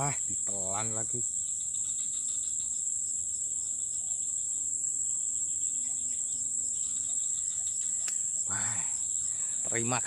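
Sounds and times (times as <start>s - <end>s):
high-pitched insect chorus: 0.0s - 10.0s
pulsing insect call: 0.0s - 10.0s.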